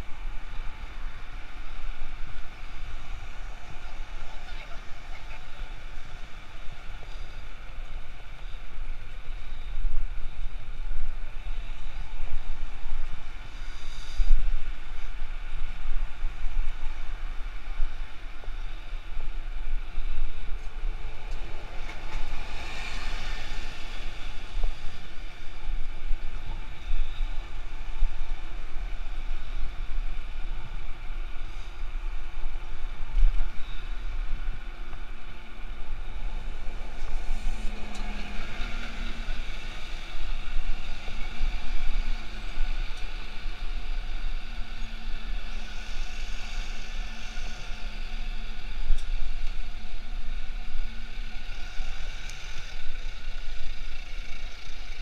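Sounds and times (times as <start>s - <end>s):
road traffic noise: 0.0s - 55.0s.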